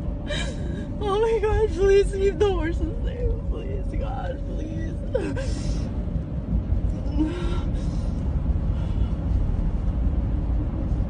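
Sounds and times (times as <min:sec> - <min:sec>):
car tunnel rumble from cabin: 0:00.0 - 0:11.0.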